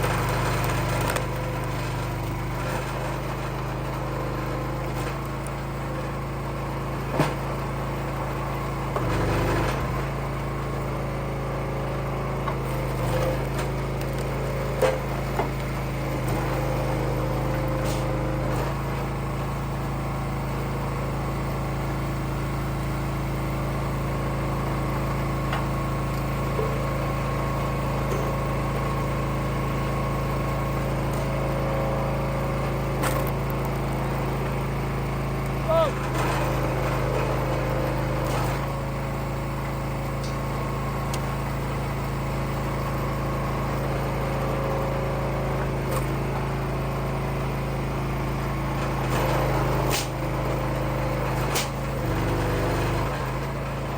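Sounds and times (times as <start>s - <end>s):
firewood splitter engine running: 0.0s - 53.9s.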